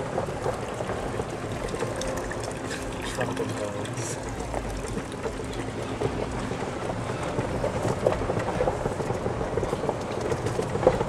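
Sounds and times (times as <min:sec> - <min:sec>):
continuous rattle: 0:00.0 - 0:11.0
vehicle rumbling on the move: 0:00.0 - 0:11.0.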